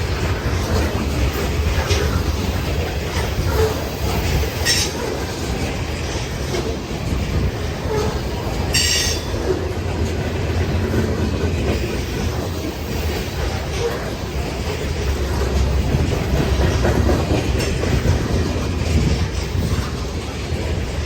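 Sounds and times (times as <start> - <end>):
freight train rumbling past: 0.0 - 21.0
wheels clattering on rail joints: 0.0 - 21.0.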